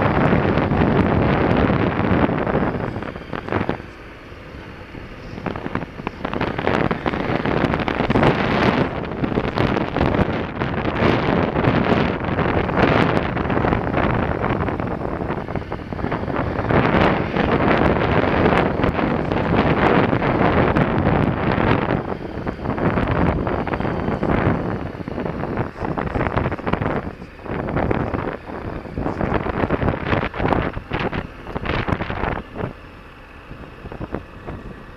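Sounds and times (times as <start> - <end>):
gusting wind on microphone: 0.0 - 34.9
motorcycle engine running: 0.0 - 34.9.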